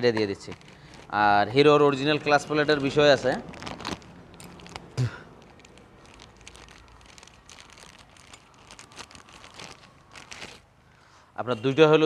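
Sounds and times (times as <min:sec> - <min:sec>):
faint clicks and rustling of packaging: 0:00.0 - 0:11.0.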